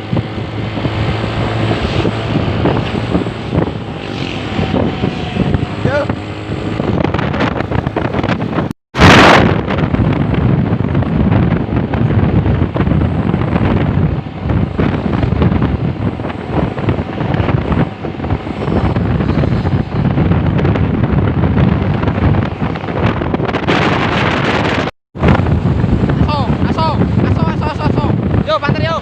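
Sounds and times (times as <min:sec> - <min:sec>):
heavy trucks passing: 0:00.0 - 0:08.7, 0:09.7 - 0:26.2
wind buffeting microphone: 0:00.0 - 0:29.0.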